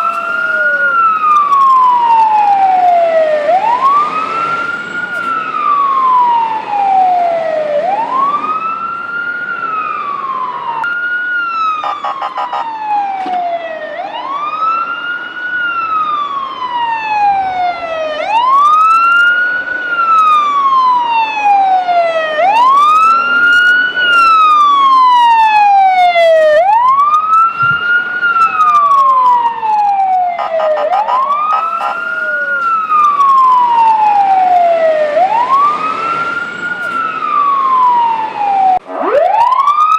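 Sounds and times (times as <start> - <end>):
fire engine siren wailing: 0.0 - 39.9.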